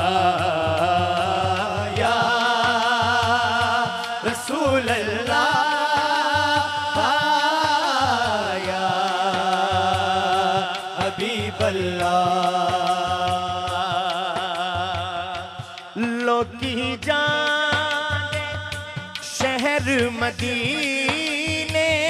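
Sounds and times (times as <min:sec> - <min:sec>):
frame drums beating: 0:00.0 - 0:22.0
men singing held notes: 0:00.0 - 0:22.0.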